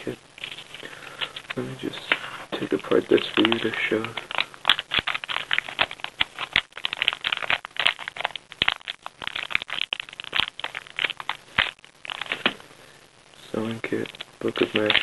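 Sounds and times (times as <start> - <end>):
small items rattling and clicking: 0.4 - 12.6, 14.0 - 15.0.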